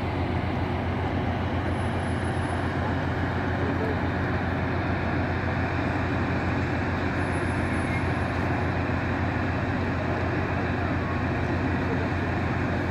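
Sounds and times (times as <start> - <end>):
locomotive engine drone: 0.0 - 12.9.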